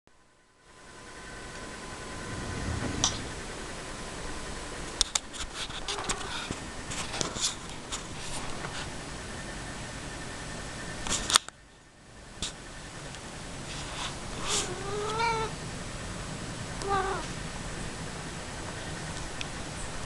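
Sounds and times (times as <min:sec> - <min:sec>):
steady background hiss: 0:00.2 - 0:20.0.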